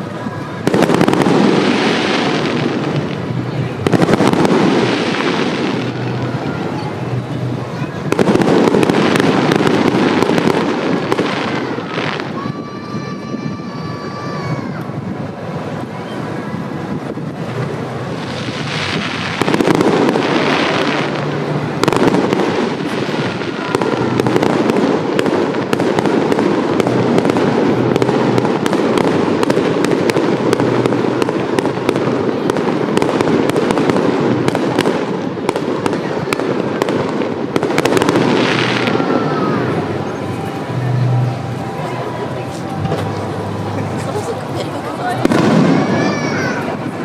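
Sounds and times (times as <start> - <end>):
fireworks bursting and crackling: 0.0 - 47.0.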